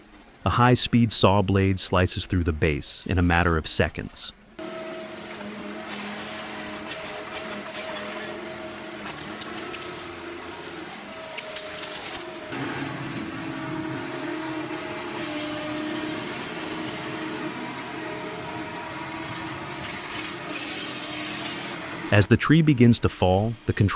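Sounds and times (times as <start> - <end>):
harvester diesel engine and hydraulics: 0.0 - 23.9.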